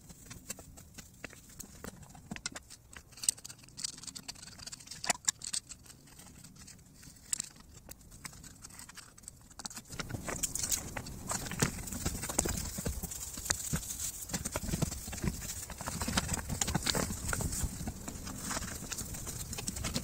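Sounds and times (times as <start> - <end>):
hand tools clicking and scraping: 0.0 - 20.0.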